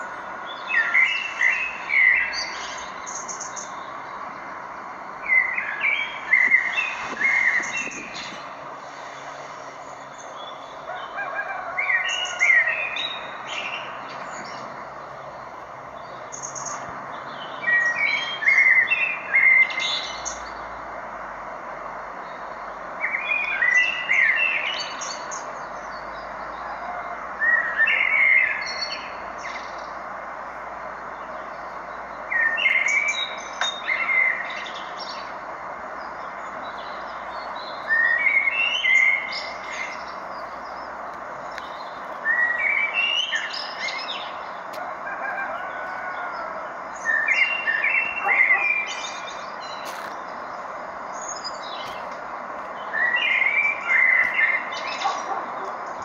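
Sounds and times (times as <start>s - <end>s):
songbird singing: 0.0s - 56.0s
steady background hiss: 0.0s - 56.0s.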